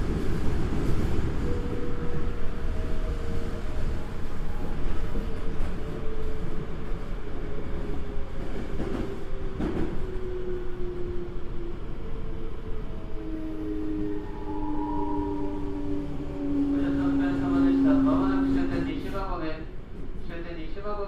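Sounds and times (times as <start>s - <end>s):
subway train wheels rumbling on rail: 0.0s - 21.0s.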